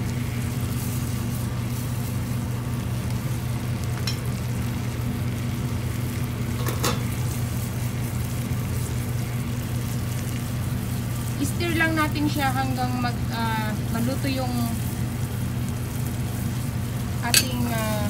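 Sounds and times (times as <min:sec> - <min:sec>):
butter sizzling in saucepan: 0:00.0 - 0:18.0
steady low hum: 0:00.0 - 0:18.0.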